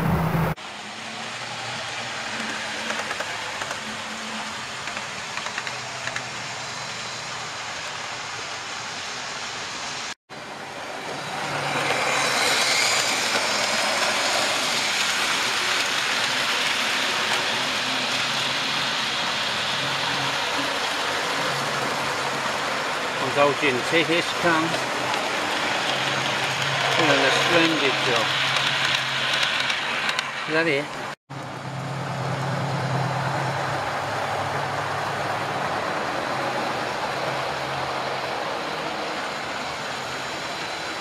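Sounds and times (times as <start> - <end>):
model train running on track: 0.7 - 41.0.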